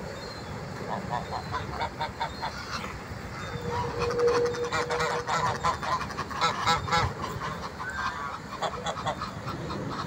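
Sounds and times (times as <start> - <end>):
geese honking: 0.8 - 10.0.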